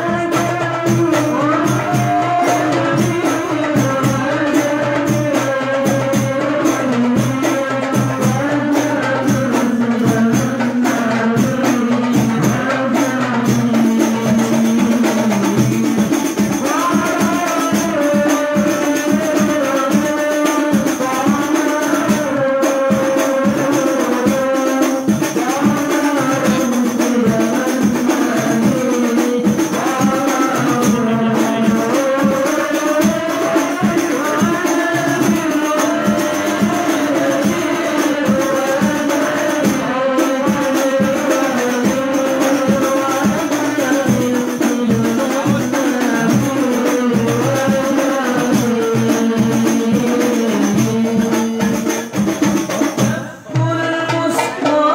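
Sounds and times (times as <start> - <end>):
frame drums beating: 0.0 - 54.9
voices singing devotional melody: 0.0 - 54.9.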